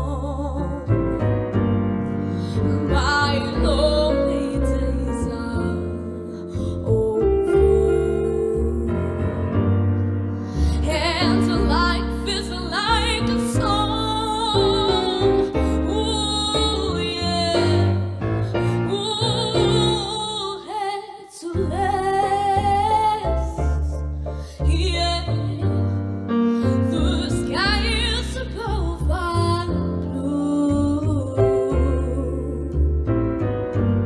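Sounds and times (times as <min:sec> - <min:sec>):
woman singing with vibrato: 0:00.0 - 0:00.9, 0:02.5 - 0:09.5, 0:10.6 - 0:23.7, 0:26.6 - 0:32.9.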